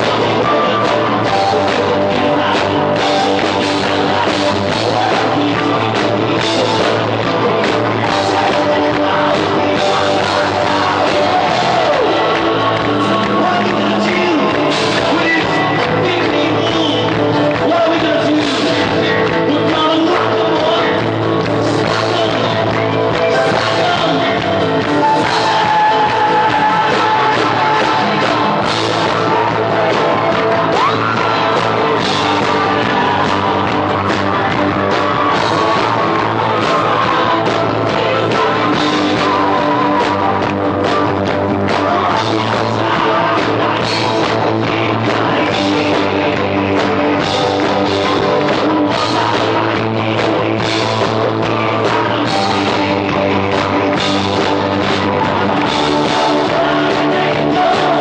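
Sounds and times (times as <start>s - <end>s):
live rock band: 0.0s - 58.0s.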